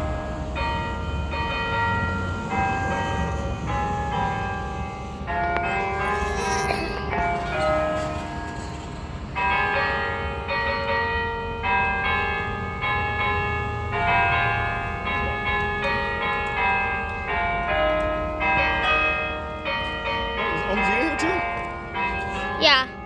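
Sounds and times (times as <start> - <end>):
tower bells ringing: 0.0 - 23.0.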